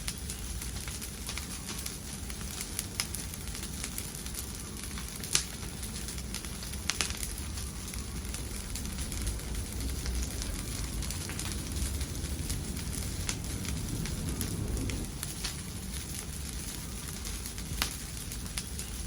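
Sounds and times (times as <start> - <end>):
fire crackles and pops: 0.0 - 19.0
wood fire rumble and hiss: 0.0 - 19.0.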